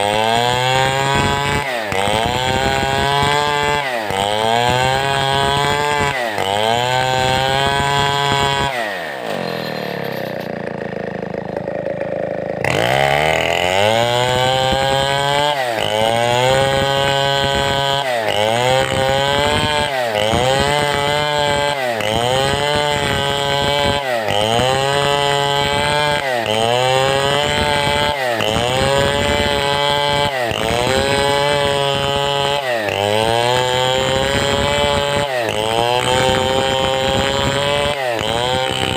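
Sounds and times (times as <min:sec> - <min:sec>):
chainsaw cutting timber: 0:00.0 - 0:38.9.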